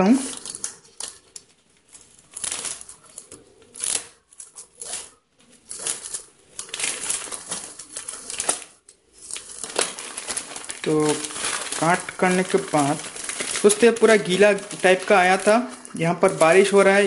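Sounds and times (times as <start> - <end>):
plastic crinkling: 0.0 - 17.0.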